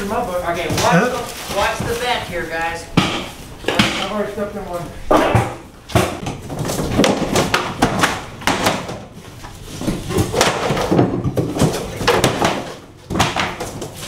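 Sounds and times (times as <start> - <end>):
wooden floor panels knocking and scraping: 0.6 - 4.3, 5.1 - 14.0.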